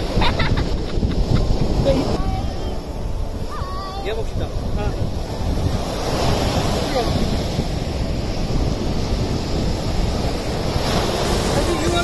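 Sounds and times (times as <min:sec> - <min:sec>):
sea surf washing: 0:00.0 - 0:12.0
wind rumbling on microphone: 0:00.0 - 0:12.0.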